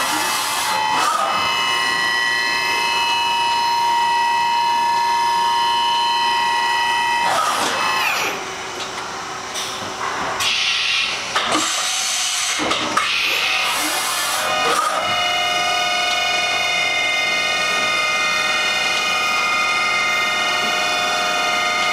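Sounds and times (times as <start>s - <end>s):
machining center high whine: 0.0s - 21.9s.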